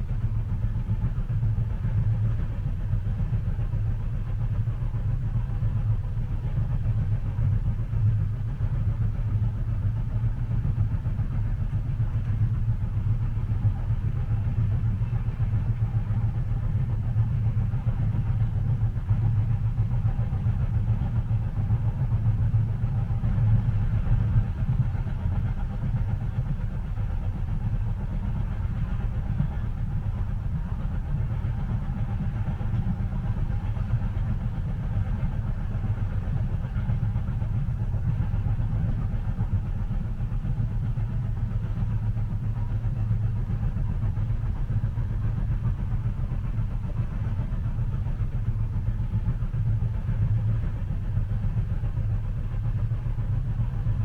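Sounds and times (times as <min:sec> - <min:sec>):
train rumble inside cabin: 0:00.0 - 0:54.0.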